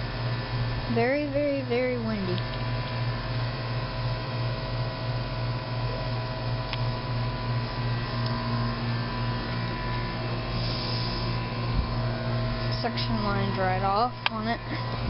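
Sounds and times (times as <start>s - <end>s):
compressor low hum: 0.0s - 15.0s
fan rushing: 0.0s - 15.0s.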